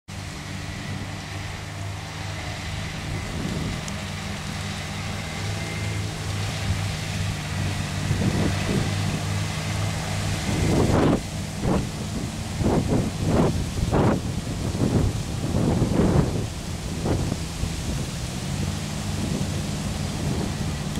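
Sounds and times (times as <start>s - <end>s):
diesel locomotive drone: 0.1s - 20.9s.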